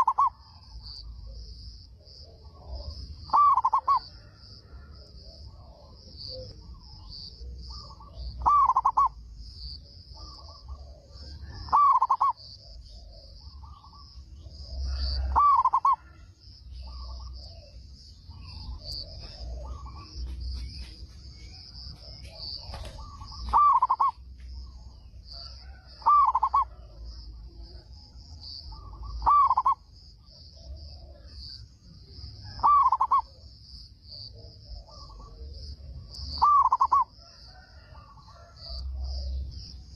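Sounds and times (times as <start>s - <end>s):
dove cooing: 0.0s - 1.6s, 2.2s - 9.2s, 10.2s - 24.3s, 25.4s - 28.1s, 28.7s - 31.6s, 32.3s - 33.5s, 34.3s - 39.4s.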